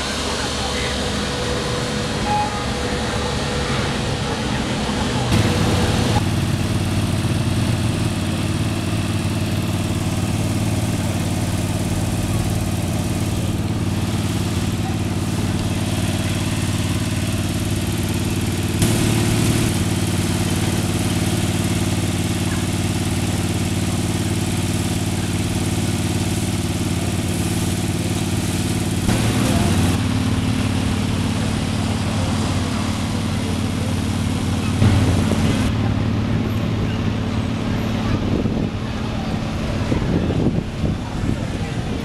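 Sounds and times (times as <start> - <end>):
sweeper engine running: 0.0 - 42.0.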